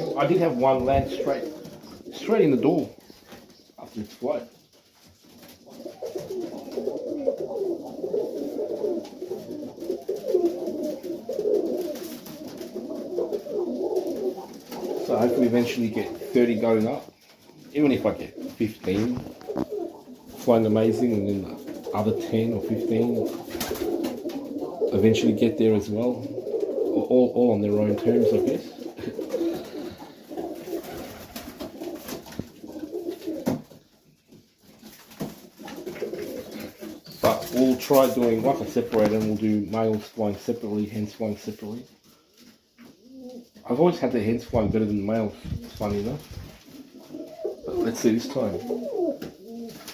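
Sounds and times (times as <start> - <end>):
pigeons cooing: 0.0 - 3.8, 4.5 - 34.0, 35.4 - 39.1, 41.7 - 43.6, 44.5 - 49.9.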